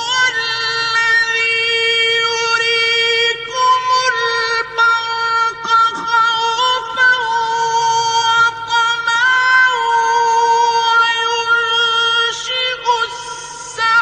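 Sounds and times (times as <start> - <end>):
man reciting in long high note: 0.0 - 14.0.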